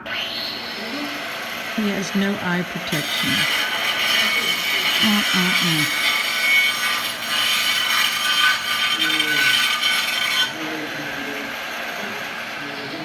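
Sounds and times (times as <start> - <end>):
power tool grinding tile: 0.0 - 13.0.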